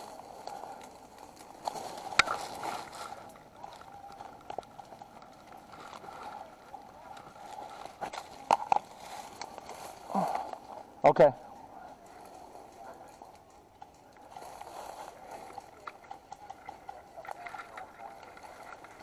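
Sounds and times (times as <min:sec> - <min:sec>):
rustling through brush and leaves: 0:00.0 - 0:19.0.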